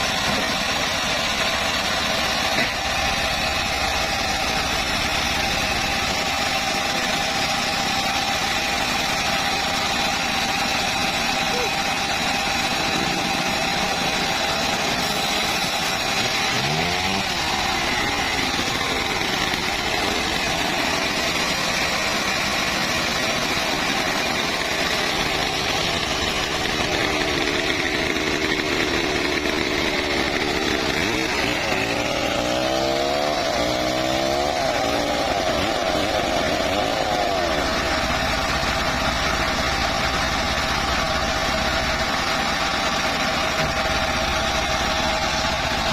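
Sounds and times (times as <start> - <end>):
engine-driven wood saw running: 0.0 - 45.9.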